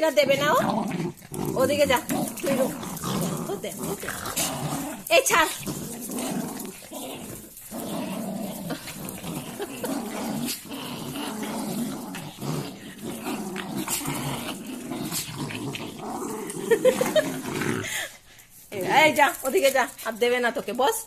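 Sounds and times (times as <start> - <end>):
dogs growling: 0.0 - 20.0.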